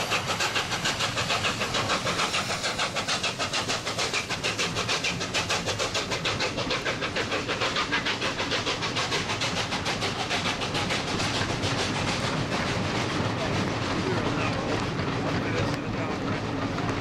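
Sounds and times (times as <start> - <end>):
coaches rumbling on rails: 0.0 - 17.0
steam locomotive exhaust beating: 0.0 - 17.0.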